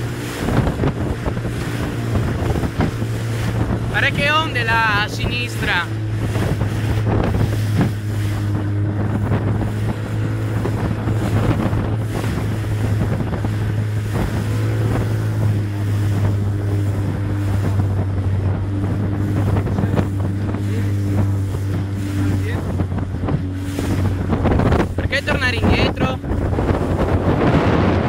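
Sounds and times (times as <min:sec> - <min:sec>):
hull knocking on waves: 0:00.0 - 0:28.0
outboard motor running: 0:00.0 - 0:28.0
water rushing past hull: 0:00.0 - 0:28.0
wind on microphone: 0:00.0 - 0:28.0.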